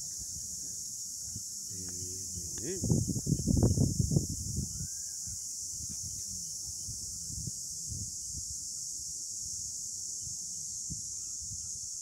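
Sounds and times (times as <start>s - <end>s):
high-pitched insect chorus: 0.0s - 12.0s
wind rumble on microphone: 0.0s - 12.0s.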